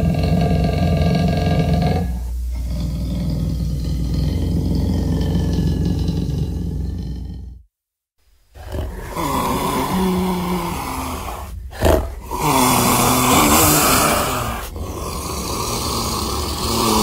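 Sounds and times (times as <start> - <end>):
monster growls: 0.0 - 7.6, 8.6 - 17.0.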